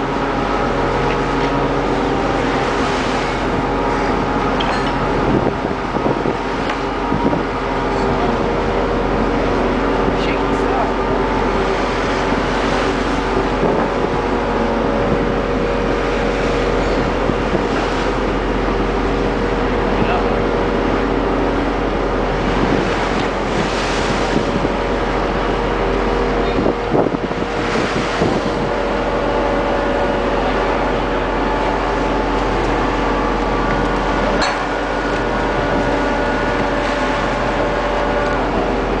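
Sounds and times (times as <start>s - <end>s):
ship machinery drone: 0.0s - 39.0s
wind buffeting microphone: 0.0s - 39.0s.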